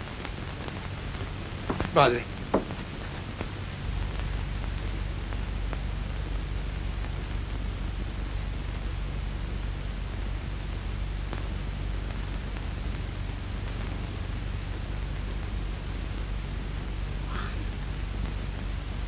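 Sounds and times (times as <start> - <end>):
film soundtrack hiss and hum: 0.0 - 19.0.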